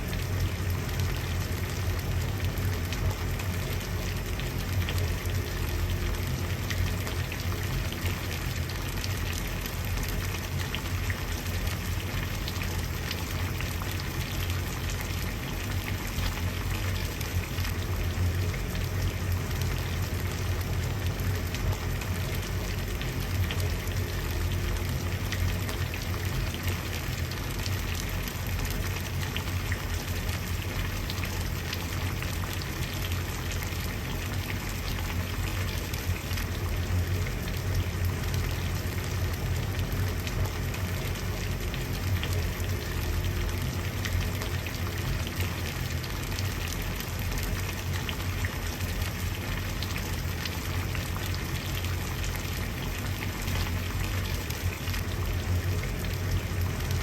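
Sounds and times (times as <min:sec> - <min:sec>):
water boiling with bubbles popping: 0:00.0 - 0:57.0.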